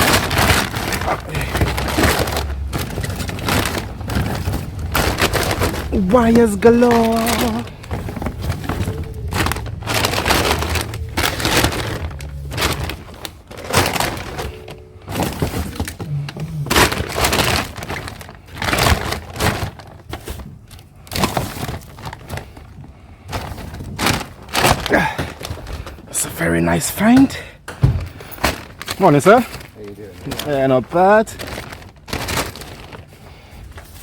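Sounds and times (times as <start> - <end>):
scrap cables crackling and clattering: 0.0 - 34.0.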